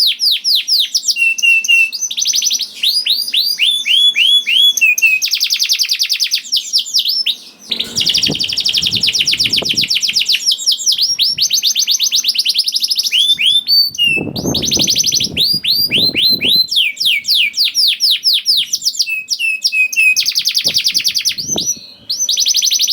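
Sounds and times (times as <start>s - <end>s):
canary singing trills: 0.0s - 22.9s.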